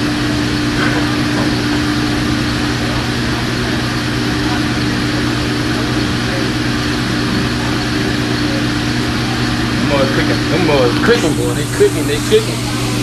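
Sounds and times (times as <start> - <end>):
fan or motor drone: 0.0 - 13.0.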